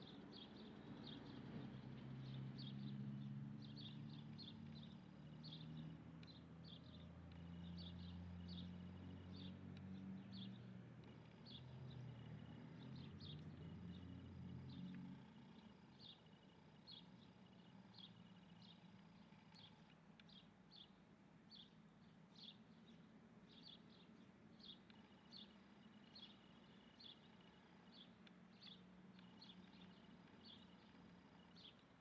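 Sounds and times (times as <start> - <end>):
birds chirping faintly: 0.0 - 32.0.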